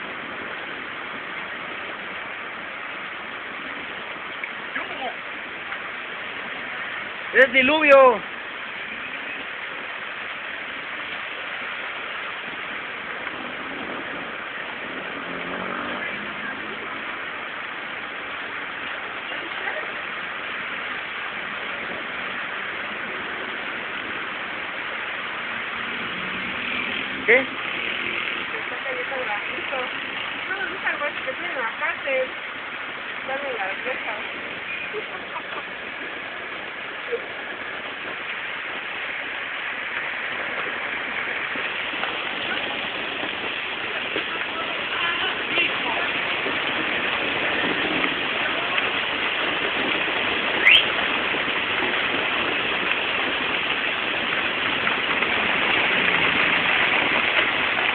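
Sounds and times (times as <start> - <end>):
heavy rain and hail: 0.0 - 57.9.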